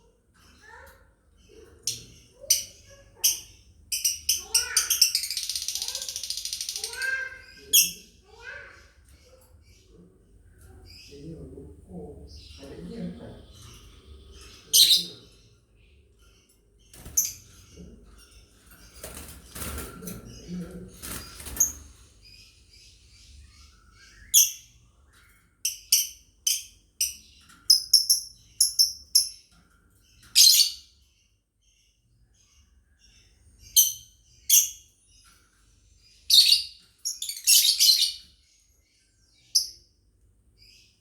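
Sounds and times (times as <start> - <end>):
lovebirds chirping: 0.0 - 41.0.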